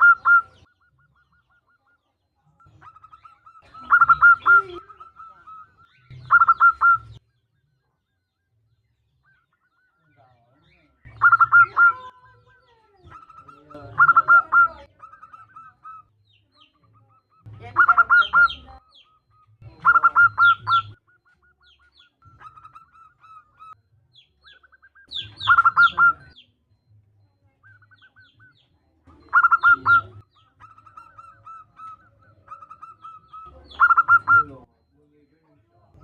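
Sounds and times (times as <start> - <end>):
dove cooing: 0.0 - 7.2, 9.3 - 36.0.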